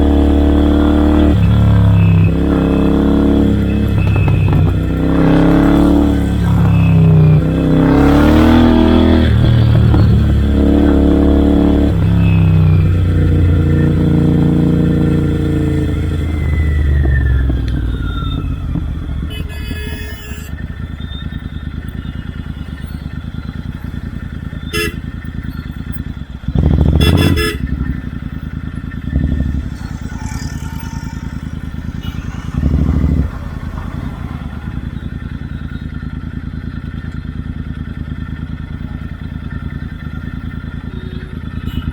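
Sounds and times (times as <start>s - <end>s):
motorcycle engine revving: 0.0s - 41.9s
motorcycle throttle blips: 0.0s - 41.9s.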